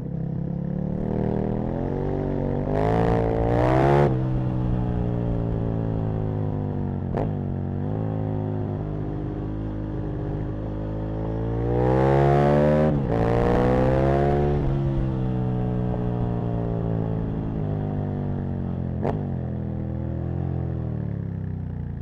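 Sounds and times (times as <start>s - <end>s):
motorcycle engine revving through gears: 0.0s - 21.5s.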